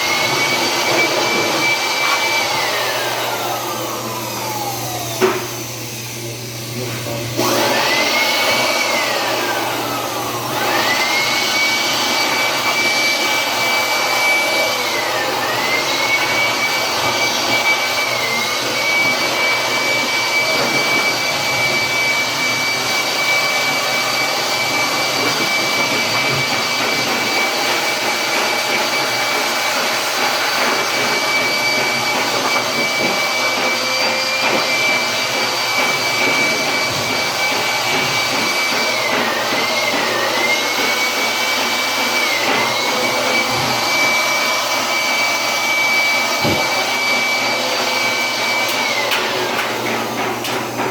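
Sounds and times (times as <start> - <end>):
dryer motor and fan whining: 0.0 - 50.9.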